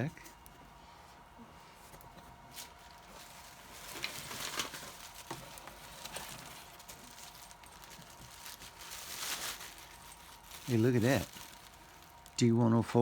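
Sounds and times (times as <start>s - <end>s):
rustling and clattering in a box: 1.8s - 12.4s.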